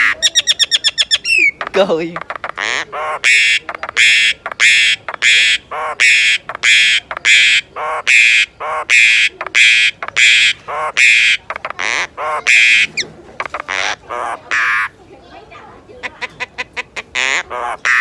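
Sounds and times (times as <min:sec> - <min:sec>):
bird harsh raspy squawks: 0:00.0 - 0:15.0, 0:16.0 - 0:18.0.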